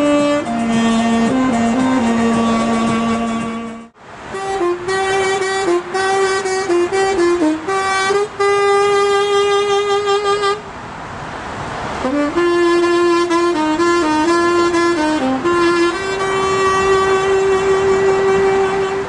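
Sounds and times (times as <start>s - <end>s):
reedy horn-like melody: 0.0s - 10.7s, 11.9s - 19.0s
street noise: 0.0s - 19.0s.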